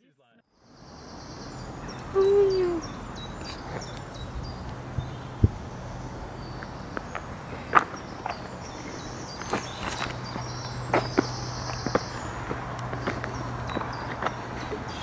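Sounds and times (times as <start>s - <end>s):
outdoor background noise: 0.5s - 15.0s
low hooting bird call: 0.6s - 15.0s.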